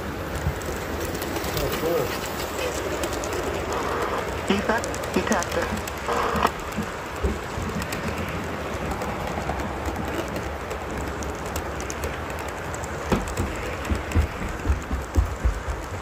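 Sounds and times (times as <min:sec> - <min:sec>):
model train rolling rattle: 0:00.0 - 0:16.0.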